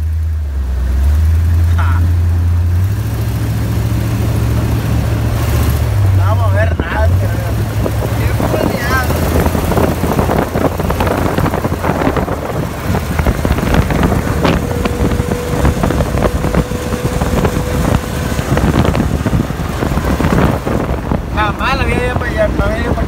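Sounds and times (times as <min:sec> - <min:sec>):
buggy engine running: 0:00.0 - 0:23.0
wind buffeting microphone: 0:03.0 - 0:23.0
body rattling: 0:04.2 - 0:23.0.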